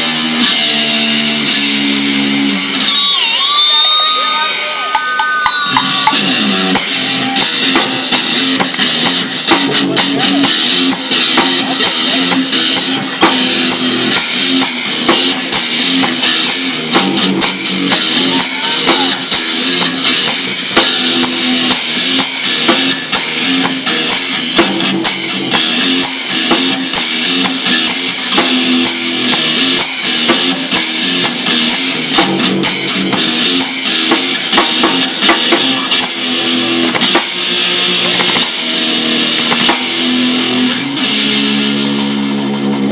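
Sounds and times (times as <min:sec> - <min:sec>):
drum kit beating: 0:00.0 - 0:42.9
rock music: 0:00.0 - 0:42.9.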